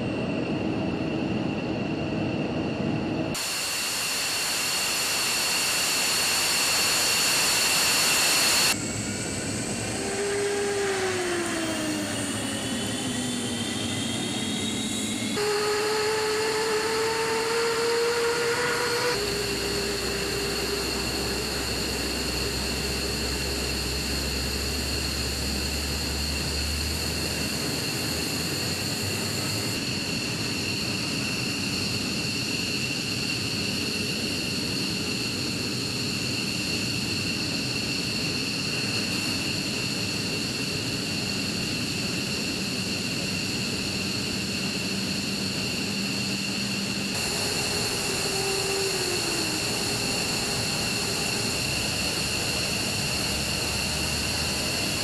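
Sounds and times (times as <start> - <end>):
jet engine rushing noise: 0.0 - 55.0
jet engines whining: 0.0 - 55.0.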